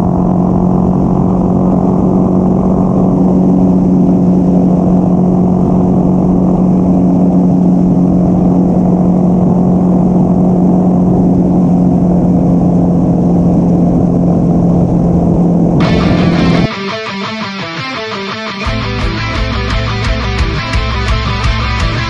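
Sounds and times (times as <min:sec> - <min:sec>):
motorcycle engine drone: 0:00.0 - 0:22.0.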